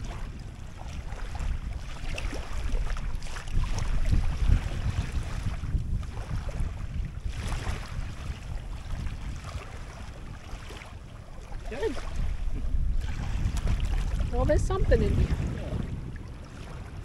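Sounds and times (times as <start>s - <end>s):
small waves lapping shoreline: 0.0s - 17.0s
wind buffeting microphone: 0.0s - 17.0s.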